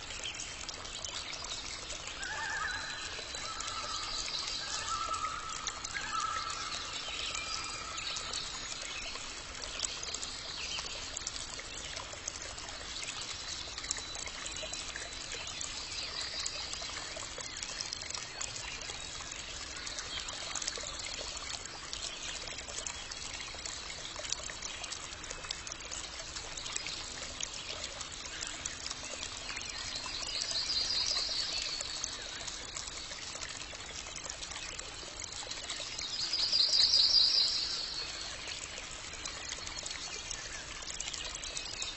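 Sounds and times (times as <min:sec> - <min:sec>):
water trickling: 0:00.0 - 0:41.9.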